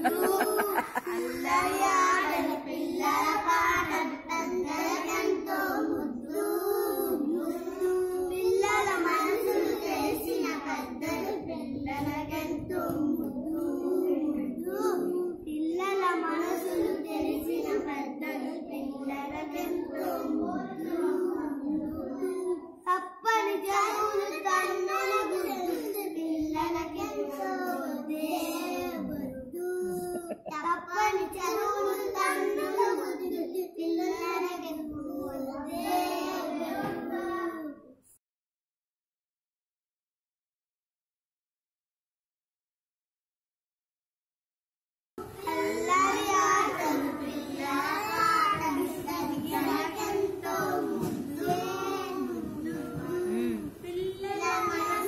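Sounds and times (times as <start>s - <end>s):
young children singing a rhyme: 0.0s - 38.2s, 45.2s - 55.0s.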